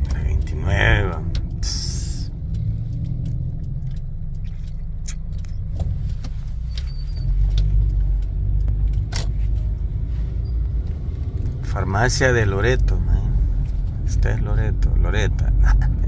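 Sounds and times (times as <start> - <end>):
car driving rumble: 0.0 - 16.0
light rattles and clicks: 0.0 - 16.0.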